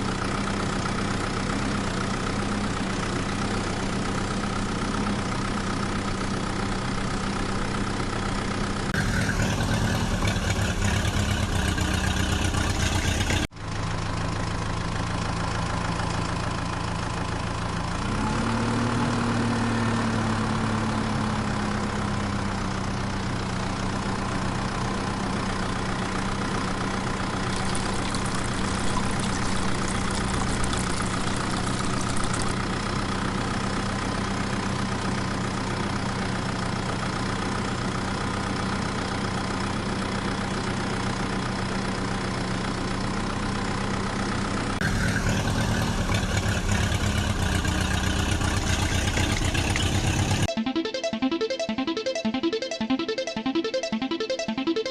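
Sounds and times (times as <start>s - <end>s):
heavy vehicle engine idling: 0.0s - 50.5s
rough loud engine: 0.0s - 50.5s.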